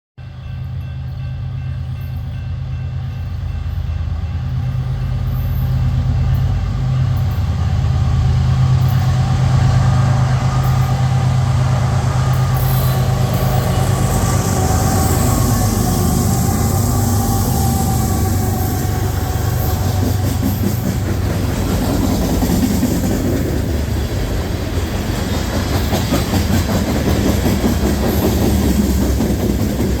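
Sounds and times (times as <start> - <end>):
locomotive engines humming: 0.2 - 30.0
train wheels rumbling on rails: 0.2 - 30.0.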